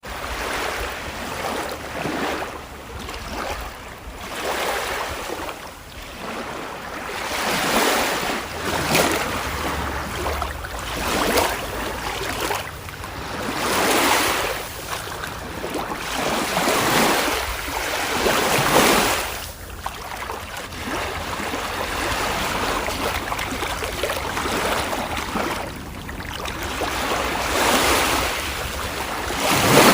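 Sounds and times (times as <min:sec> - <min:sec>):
ocean waves breaking: 0:00.0 - 0:29.9.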